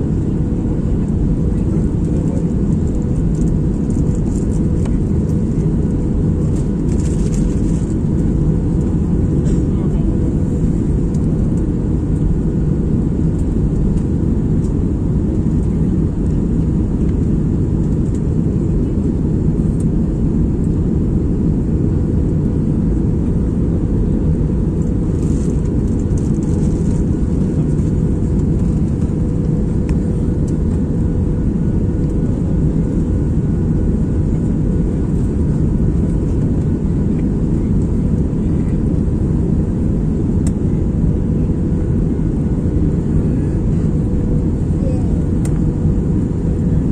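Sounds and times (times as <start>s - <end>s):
airliner cabin roar: 0.0s - 46.9s.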